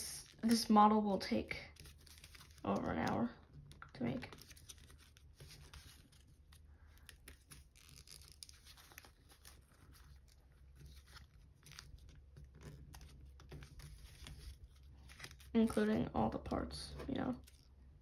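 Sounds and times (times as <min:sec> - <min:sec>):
foil paper crinkling: 0:00.2 - 0:15.9.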